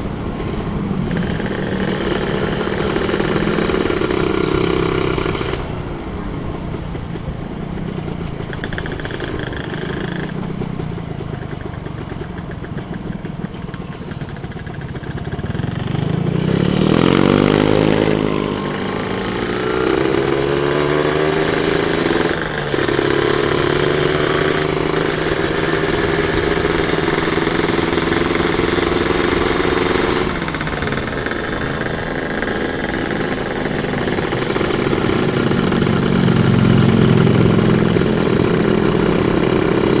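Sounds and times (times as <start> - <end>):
motorcycle engine revving: 0.0 - 6.3, 7.0 - 40.0.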